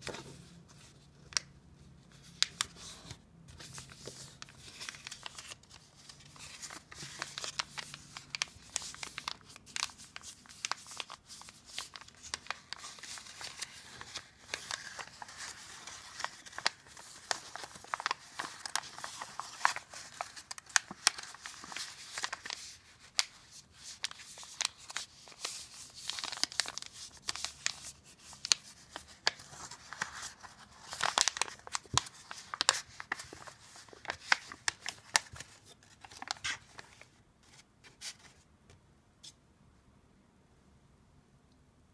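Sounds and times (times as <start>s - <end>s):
paper rustling and crinkling: 2.2s - 38.5s.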